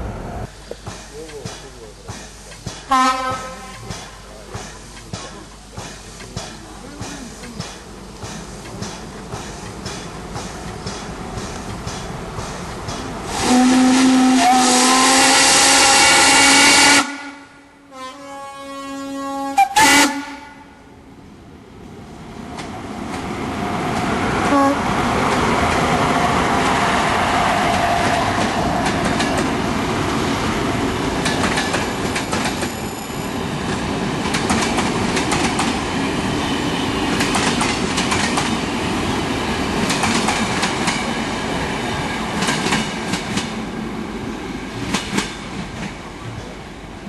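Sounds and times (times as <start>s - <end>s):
steam train running: 0.0s - 47.0s.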